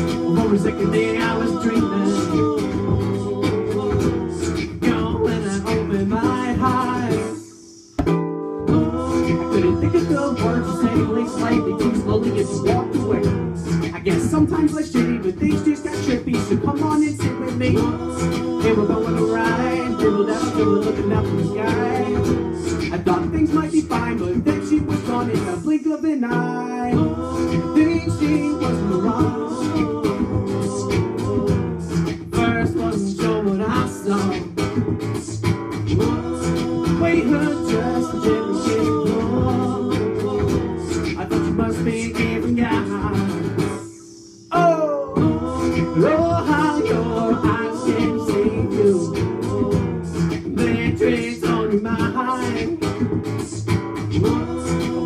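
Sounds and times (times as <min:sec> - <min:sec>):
man singing: 0:00.0 - 0:08.0, 0:08.7 - 0:55.0
acoustic guitar strumming: 0:00.0 - 0:55.0.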